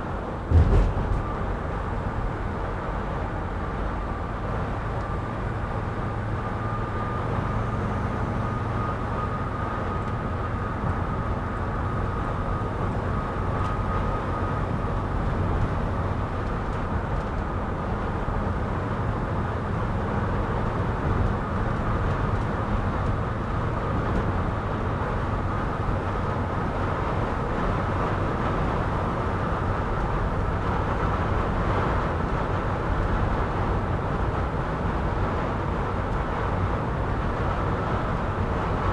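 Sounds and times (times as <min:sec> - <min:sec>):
engine and road rumble: 0:00.0 - 0:38.9
wind noise against van body: 0:00.0 - 0:38.9.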